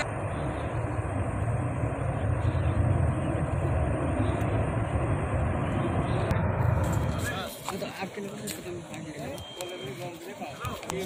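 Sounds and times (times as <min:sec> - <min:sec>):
low rumble of burning gas well: 0:00.0 - 0:11.0.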